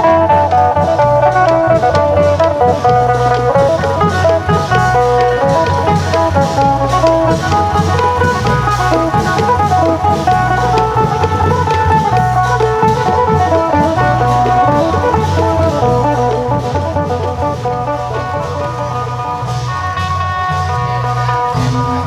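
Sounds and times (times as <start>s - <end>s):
long drums beating: 0.0s - 22.0s
percussion: 0.0s - 22.0s
plucked lute melody: 0.0s - 22.0s.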